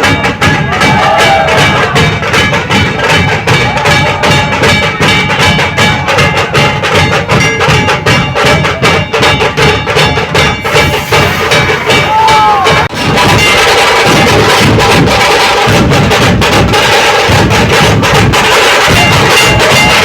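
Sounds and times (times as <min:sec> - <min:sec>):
fast dhol drumming: 0:00.0 - 0:20.0.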